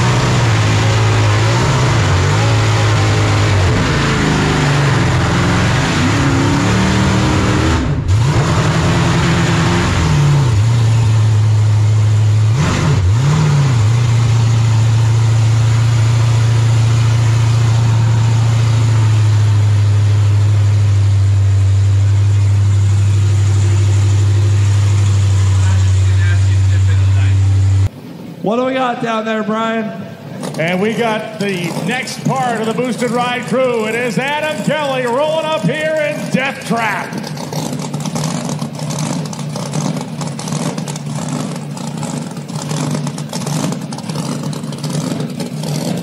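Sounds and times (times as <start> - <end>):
car engine revving: 0.0 - 27.9, 30.2 - 46.0
tires spinning: 0.0 - 27.9, 30.2 - 46.0.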